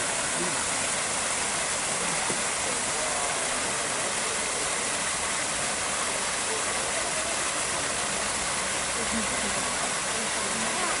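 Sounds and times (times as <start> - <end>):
waterfall spilling over rocks: 0.0 - 11.0.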